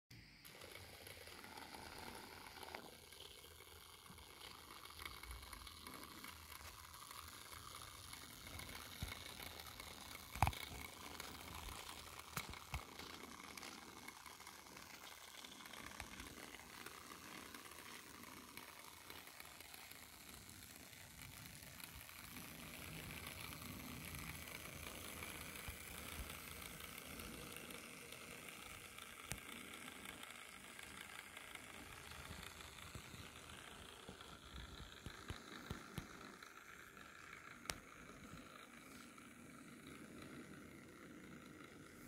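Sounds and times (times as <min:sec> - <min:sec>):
model locomotive mechanical whir: 0:00.1 - 0:42.0.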